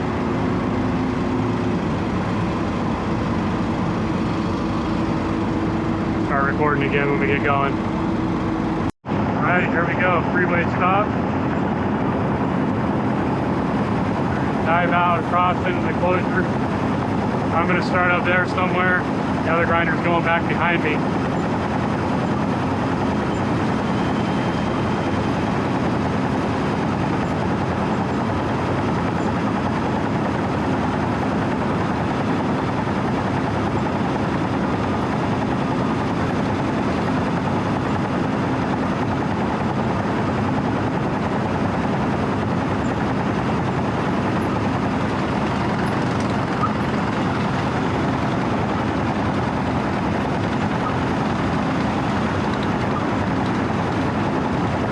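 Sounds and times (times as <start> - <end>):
diesel engine running: 0.0 - 54.9
steady hum: 0.0 - 54.9.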